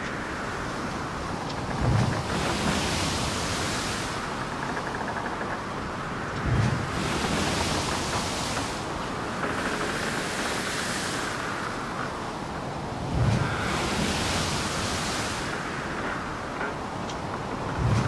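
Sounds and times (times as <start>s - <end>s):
wind on microphone: 0.0s - 5.2s, 6.1s - 18.0s.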